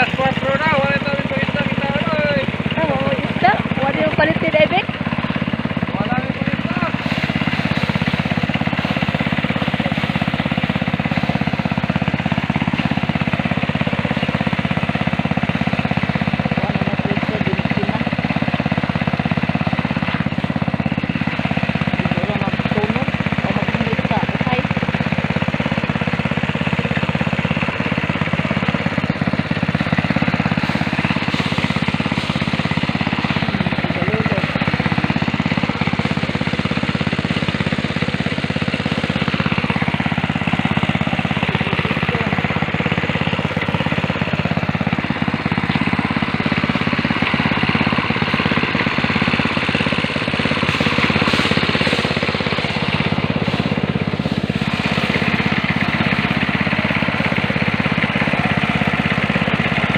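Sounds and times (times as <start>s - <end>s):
small engine rattling: 0.0s - 59.9s.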